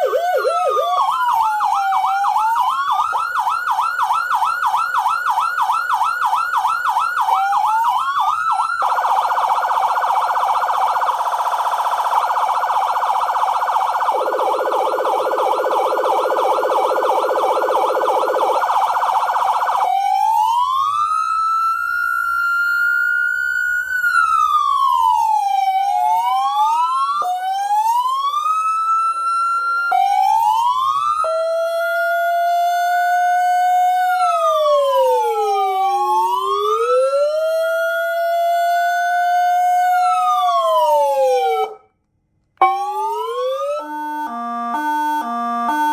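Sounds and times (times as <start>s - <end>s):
electronic siren yelp and wail: 0.0s - 41.9s, 42.6s - 45.9s.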